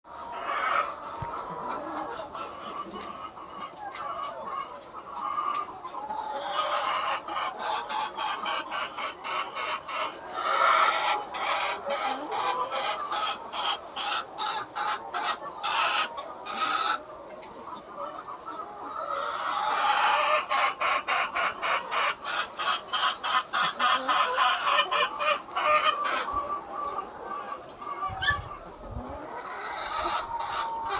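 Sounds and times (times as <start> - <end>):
hens clucking: 0.1 - 30.9.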